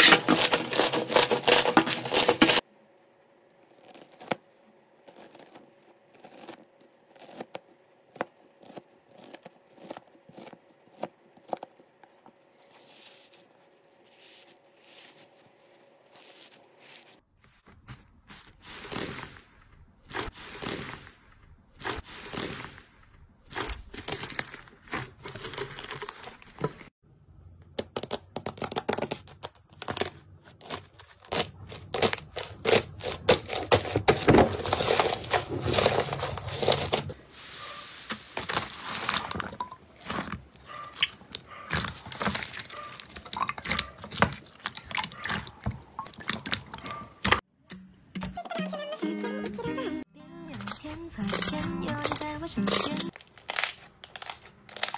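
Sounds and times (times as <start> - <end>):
slime squishing and crackling: 0.0 - 2.6, 3.5 - 17.2, 17.8 - 26.9, 27.8 - 47.4, 50.6 - 54.9.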